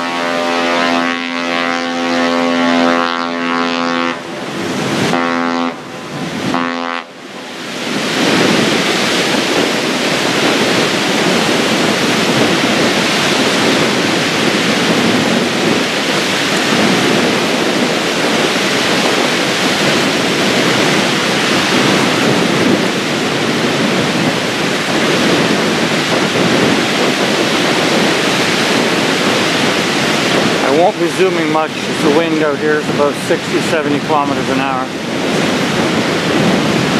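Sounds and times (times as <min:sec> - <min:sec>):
choppy water: 0:00.0 - 0:36.9
ship's horn blast: 0:00.0 - 0:36.9
wind rushing: 0:00.0 - 0:36.9.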